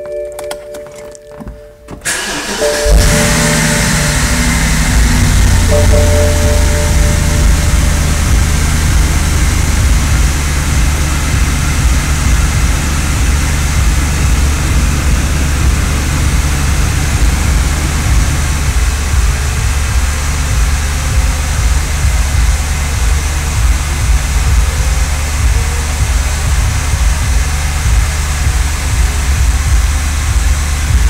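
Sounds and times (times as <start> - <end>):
car engine idling: 1.8 - 31.0.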